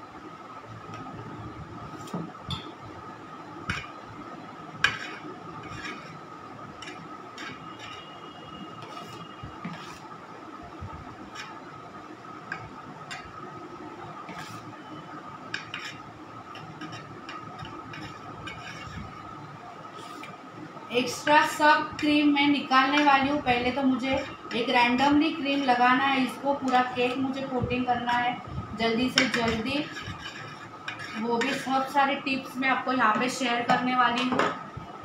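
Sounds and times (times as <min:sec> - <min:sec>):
faint hum: 0:00.0 - 0:35.0.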